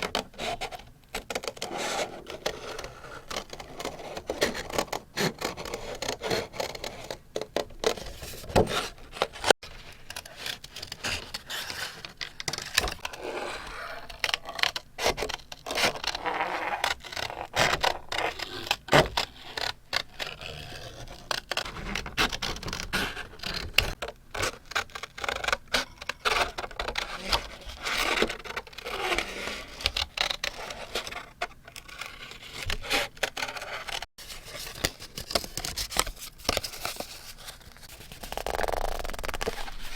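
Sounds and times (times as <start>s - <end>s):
paper rubbing and scraping: 7.8s - 39.9s.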